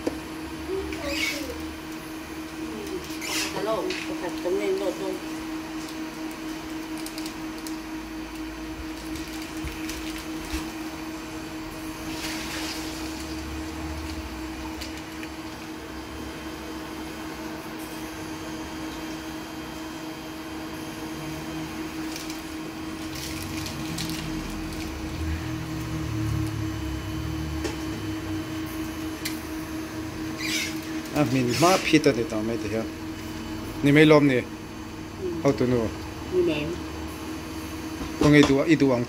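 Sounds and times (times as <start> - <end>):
appliance motor humming: 0.0 - 39.0.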